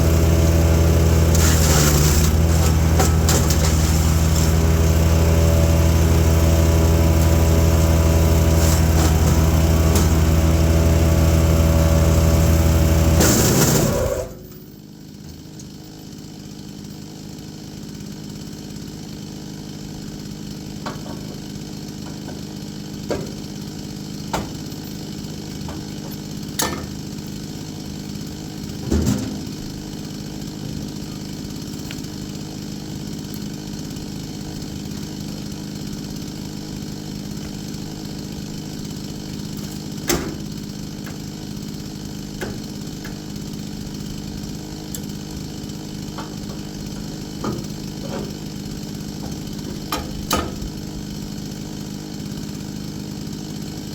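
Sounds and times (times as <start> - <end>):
wood chipper engine running: 0.0 - 53.9.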